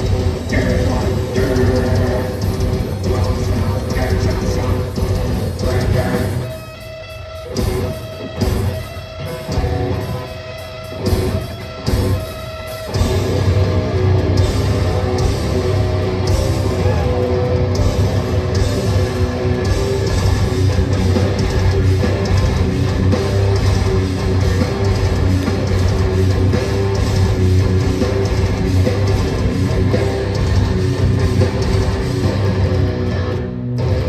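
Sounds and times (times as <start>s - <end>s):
heavy metal band playing: 0.0s - 34.0s.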